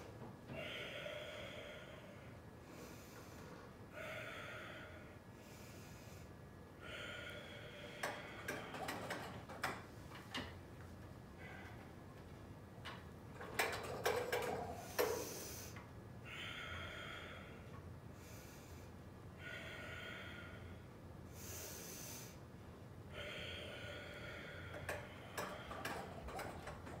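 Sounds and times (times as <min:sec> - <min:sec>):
person breathing deeply: 0:00.5 - 0:09.3, 0:11.3 - 0:12.0, 0:13.6 - 0:22.5, 0:23.1 - 0:27.0.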